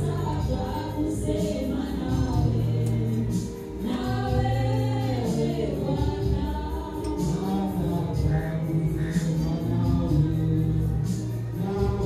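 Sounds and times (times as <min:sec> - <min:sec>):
steady bass line: 0:00.0 - 0:12.0.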